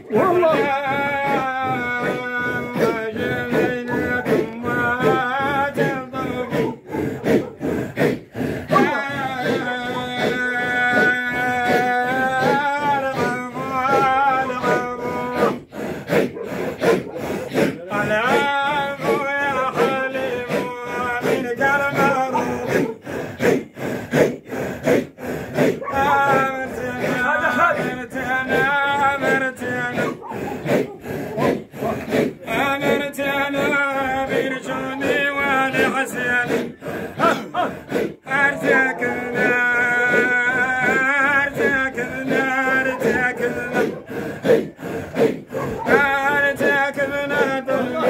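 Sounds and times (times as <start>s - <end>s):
men chanting a cappella: 0.0s - 48.0s.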